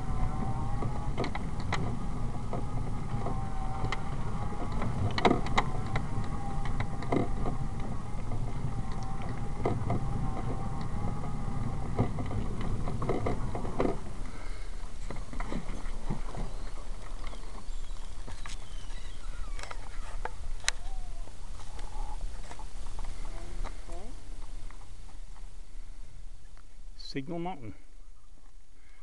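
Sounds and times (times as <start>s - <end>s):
wheels knocking on bumps: 0.0s - 25.5s
scooter wheels rumbling: 0.0s - 26.8s
steady whine: 0.0s - 29.0s.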